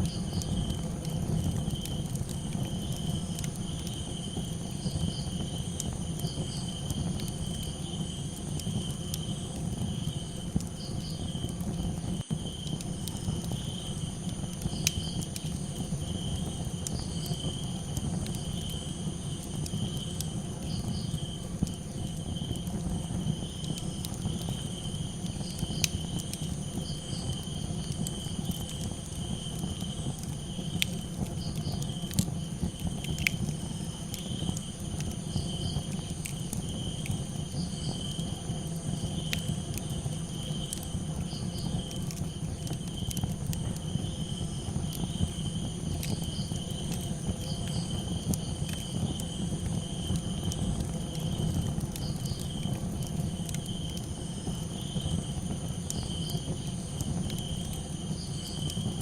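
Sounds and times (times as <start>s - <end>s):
crackling campfire: 0.0s - 59.0s
crickets chirping: 0.0s - 59.0s.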